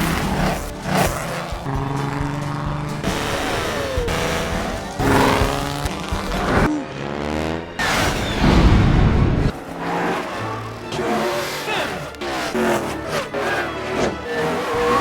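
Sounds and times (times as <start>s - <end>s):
tire squeal: 0.0s - 6.7s, 7.6s - 15.0s
car engines running and revving: 0.0s - 15.0s.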